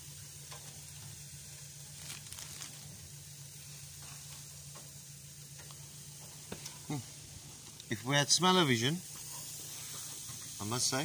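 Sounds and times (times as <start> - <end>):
meat sizzling on grill: 0.0 - 11.0
steady low hum: 0.0 - 11.0.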